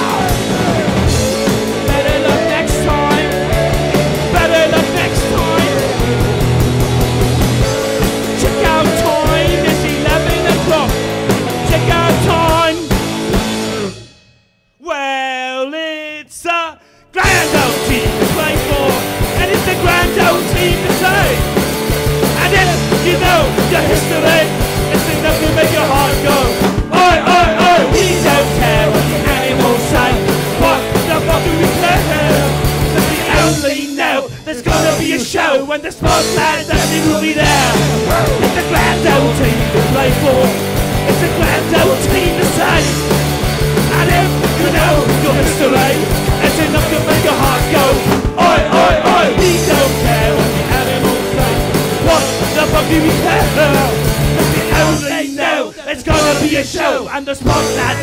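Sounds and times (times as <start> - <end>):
loud rock music: 0.0 - 14.6, 17.2 - 58.0.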